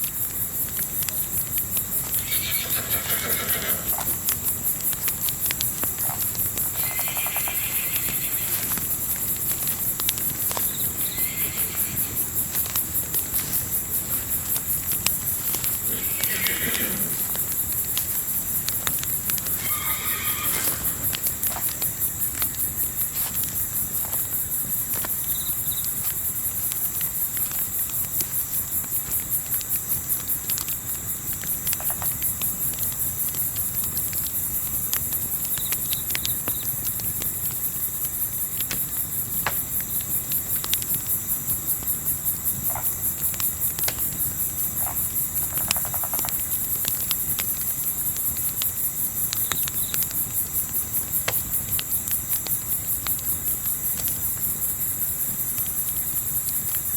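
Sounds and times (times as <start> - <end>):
campfire crackling: 0.0 - 56.9
crickets chirping: 0.0 - 56.9.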